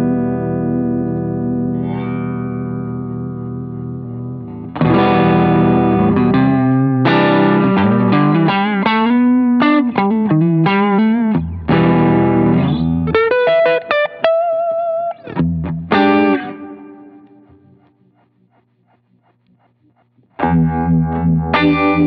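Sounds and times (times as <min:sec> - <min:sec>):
electric guitar with vibe effect: 0:00.0 - 0:22.0.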